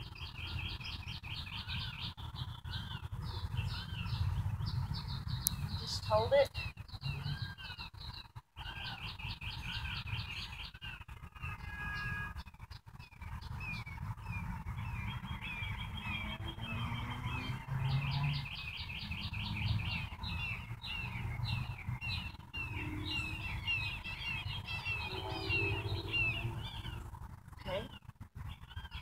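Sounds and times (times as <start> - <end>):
bird trill: 0.0 - 29.0
songbirds chirping: 0.0 - 29.0.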